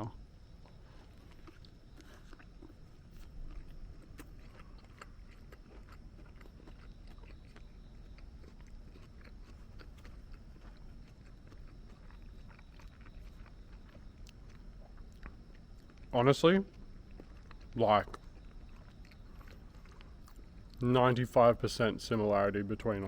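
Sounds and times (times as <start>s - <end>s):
person chewing food: 0.2s - 20.9s.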